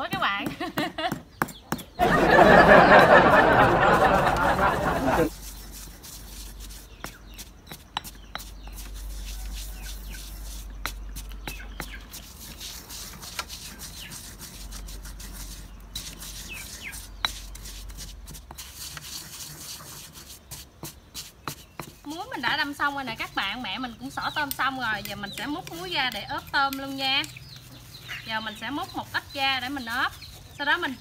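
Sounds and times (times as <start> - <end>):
birds chirping: 0.0 - 12.6, 13.3 - 18.3, 20.4 - 31.0.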